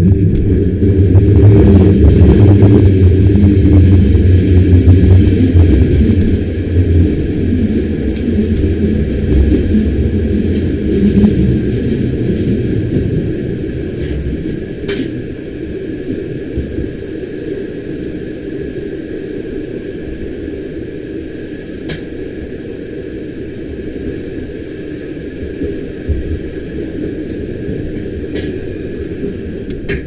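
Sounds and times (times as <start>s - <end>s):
faint steady whine: 0.0s - 30.0s
train rumbling: 0.0s - 30.0s.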